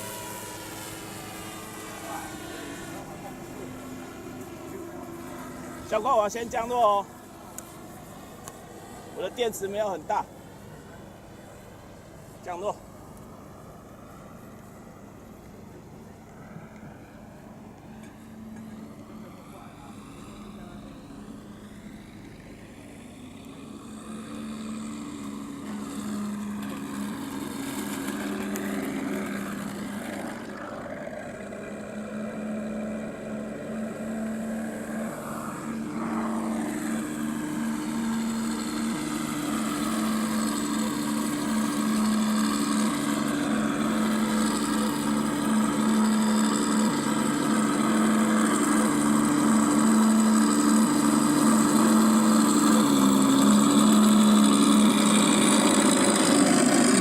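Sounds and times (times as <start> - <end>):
electric motor and propeller: 0.0 - 57.0
simulated piston engine drone: 0.0 - 57.0.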